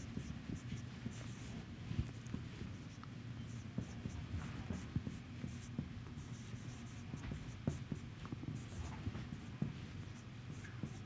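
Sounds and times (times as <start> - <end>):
marker writing on whiteboard: 0.0 - 1.6, 2.7 - 11.0.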